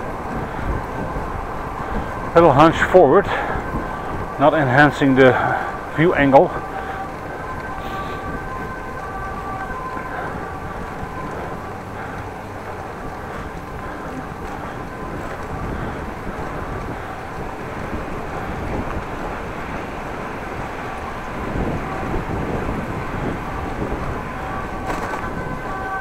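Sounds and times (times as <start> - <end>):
wind rushing across microphone: 0.0 - 26.0.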